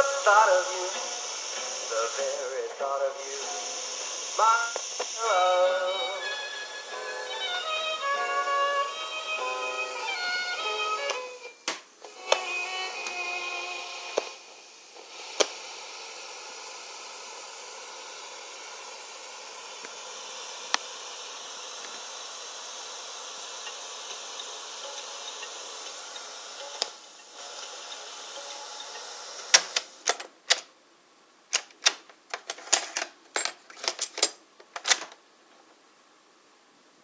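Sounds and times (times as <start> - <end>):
speaker hiss: 0.0 - 32.2.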